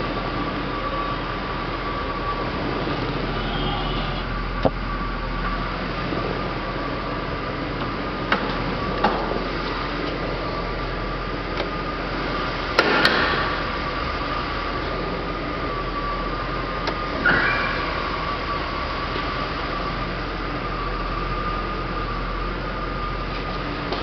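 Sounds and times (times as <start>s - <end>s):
steady hum with high whine: 0.0s - 24.0s.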